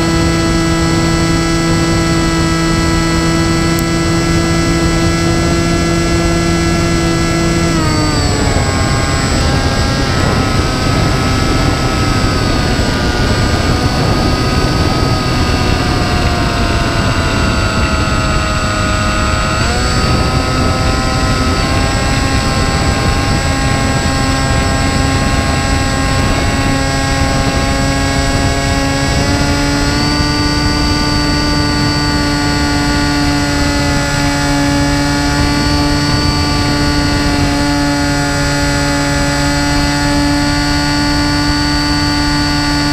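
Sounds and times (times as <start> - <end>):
propeller motor whine: 0.0 - 42.9
wind rush on microphone: 0.0 - 42.9.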